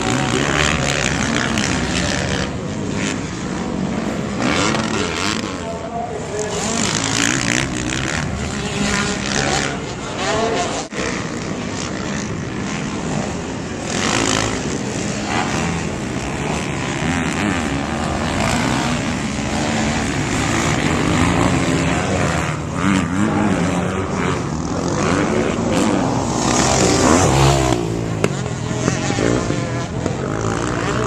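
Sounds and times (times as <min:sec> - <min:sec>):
dirt bike engines racing: 0:00.0 - 0:31.0.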